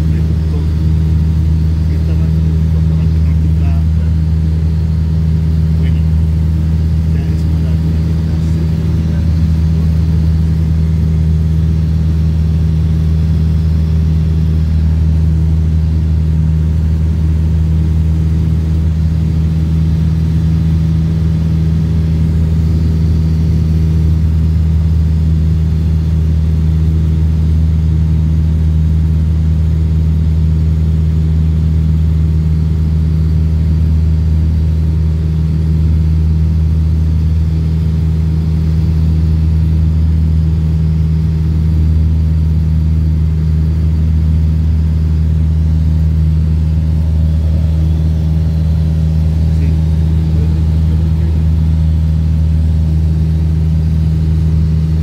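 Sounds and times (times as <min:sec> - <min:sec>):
aircraft engine droning: 0:00.0 - 0:55.0.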